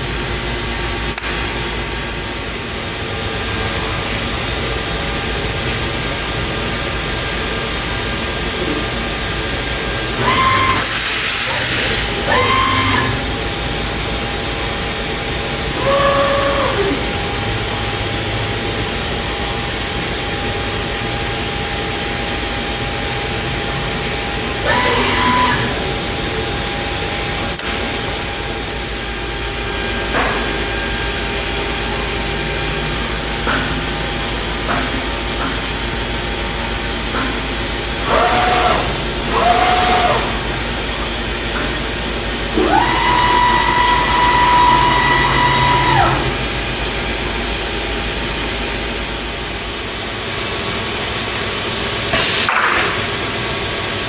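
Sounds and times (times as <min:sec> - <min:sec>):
machine whine: 0:00.0 - 0:52.2
router machine hum and hiss: 0:00.0 - 0:54.0.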